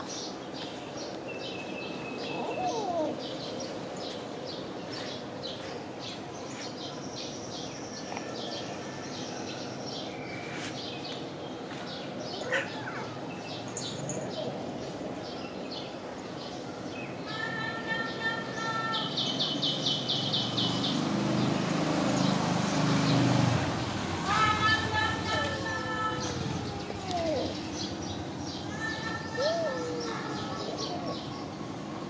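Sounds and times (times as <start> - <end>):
birds chirping: 0.0 - 32.0
steady background hiss: 0.0 - 32.0.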